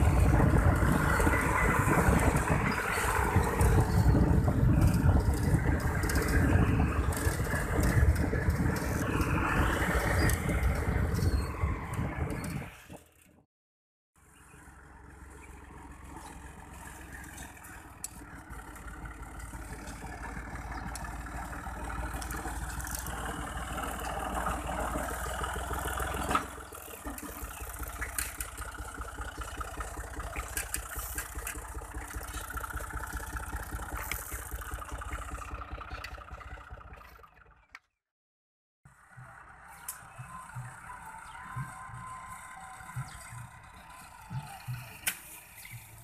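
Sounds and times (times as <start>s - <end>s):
tractor diesel engine running: 0.0s - 13.4s, 14.2s - 38.0s, 38.8s - 46.0s.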